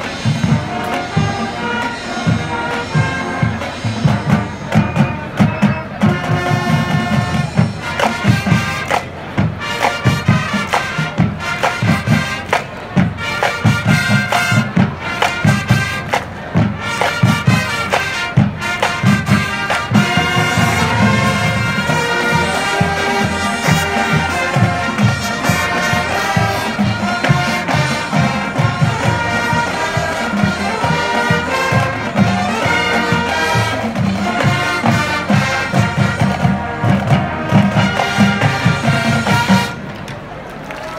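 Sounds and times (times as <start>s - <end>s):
brass playing full chords: 0.0s - 39.9s
marching drums and percussion: 0.0s - 40.9s.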